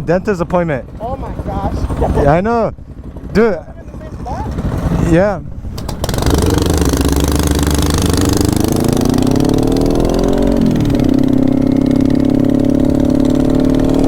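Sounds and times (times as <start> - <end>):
motorcycle engine accelerating: 0.1 - 14.0.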